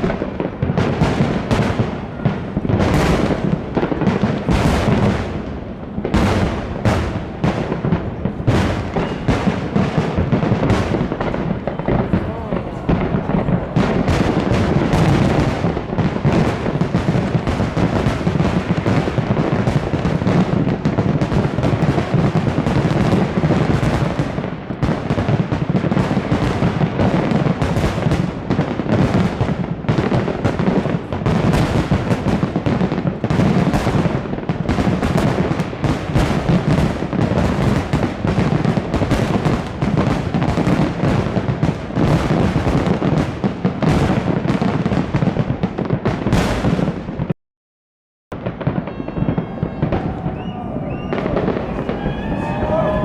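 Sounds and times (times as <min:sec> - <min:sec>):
fireworks exploding: 0:00.0 - 0:47.4, 0:48.3 - 0:53.0.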